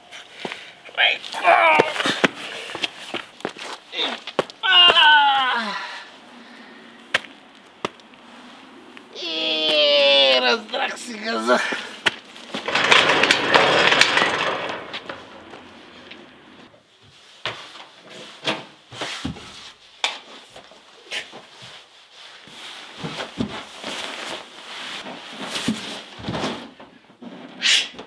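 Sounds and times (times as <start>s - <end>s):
clothing rustling: 0.0s - 4.6s, 6.1s - 9.8s, 10.6s - 26.8s.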